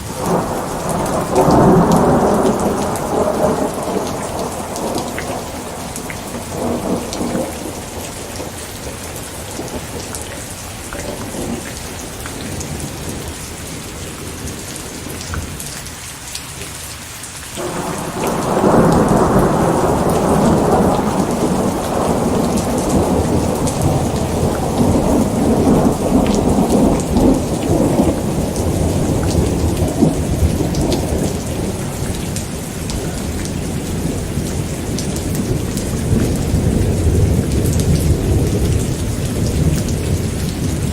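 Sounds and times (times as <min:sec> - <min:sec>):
thunder rolling: 0:00.0 - 0:10.2, 0:17.6 - 0:40.9
steady rain: 0:00.0 - 0:40.9.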